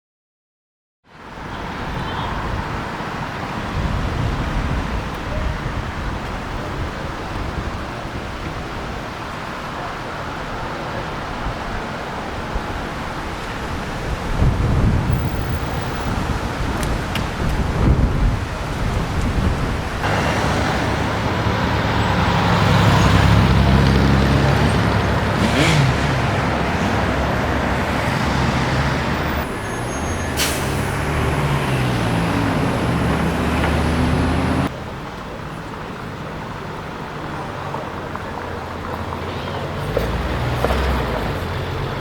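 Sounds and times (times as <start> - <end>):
road noise: 1.0 - 42.0
cars passing: 1.2 - 42.0.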